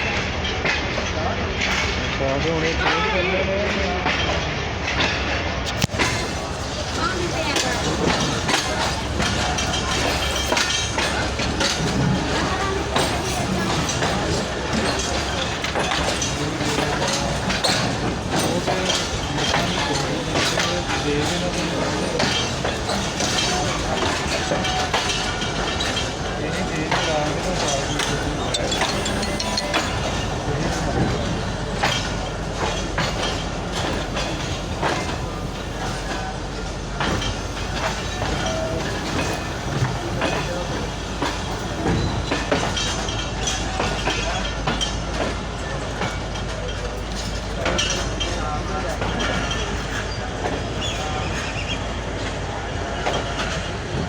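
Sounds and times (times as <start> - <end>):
passenger train rumbling past: 0.0 - 54.0
wheels clacking over rail joints: 0.0 - 54.0.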